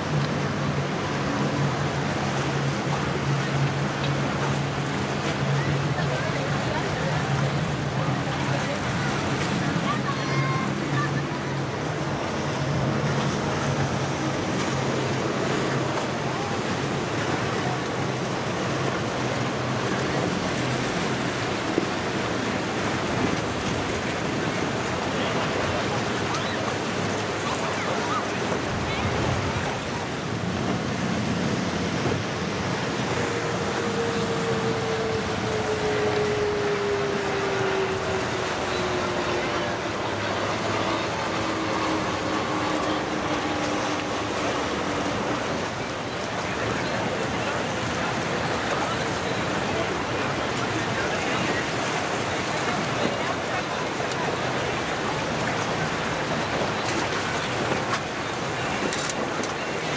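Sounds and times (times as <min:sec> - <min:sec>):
low hum of boat engines: 0:00.0 - 0:59.9
surf and choppy water: 0:00.0 - 0:59.9.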